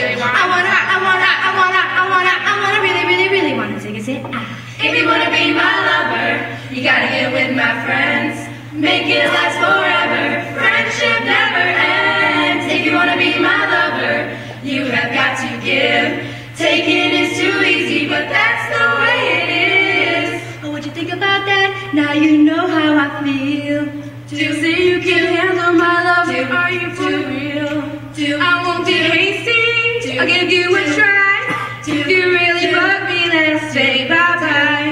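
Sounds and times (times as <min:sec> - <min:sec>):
young women singing a cappella: 0:00.0 - 0:03.6, 0:04.3 - 0:34.9.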